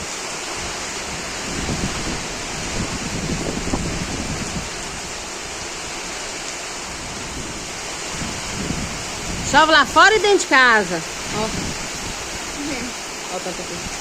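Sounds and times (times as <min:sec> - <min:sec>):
rain pouring: 0:00.0 - 0:14.0.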